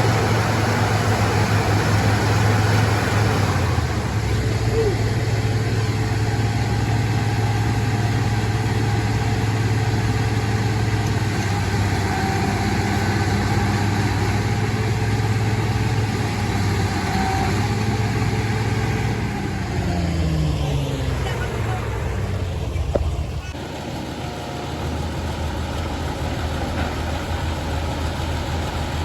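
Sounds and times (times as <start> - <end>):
heavy vehicle engine humming: 0.0 - 29.0.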